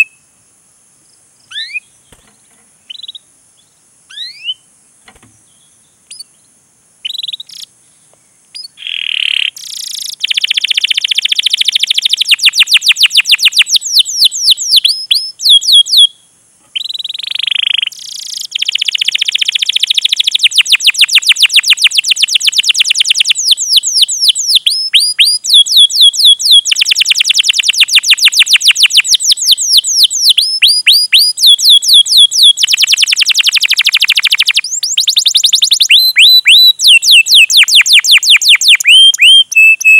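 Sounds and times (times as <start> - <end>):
canary singing: 0.0 - 0.2, 1.5 - 4.7, 7.0 - 7.7, 8.5 - 16.2, 16.8 - 39.9.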